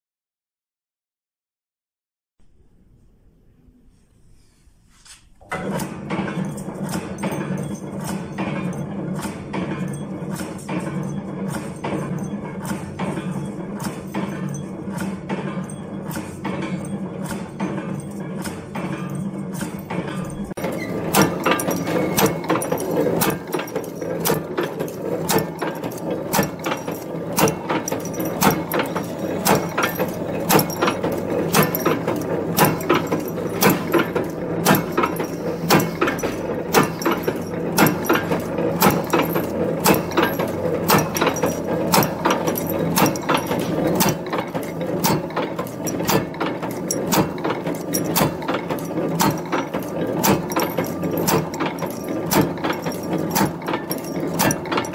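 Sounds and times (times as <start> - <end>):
machine mechanical clatter: 5.4 - 54.9.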